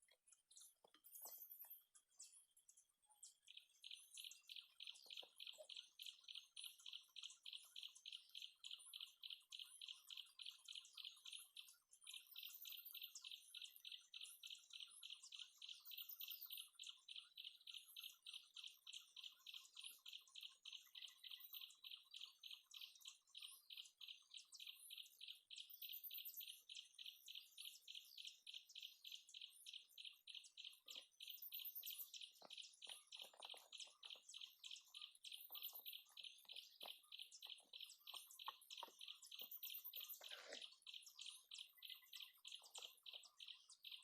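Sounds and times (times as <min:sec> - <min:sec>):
faint high chirps: 0:00.0 - 0:44.0
insect rhythmic chirping: 0:00.0 - 0:44.0.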